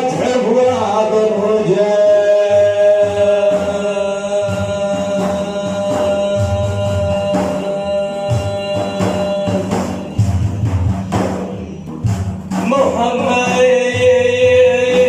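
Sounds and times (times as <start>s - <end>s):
frame drums beating: 0.0s - 15.0s.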